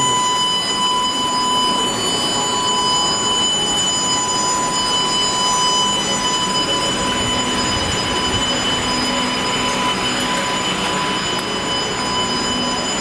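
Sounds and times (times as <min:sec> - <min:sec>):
high-pitched whining tones: 0:00.0 - 0:13.0.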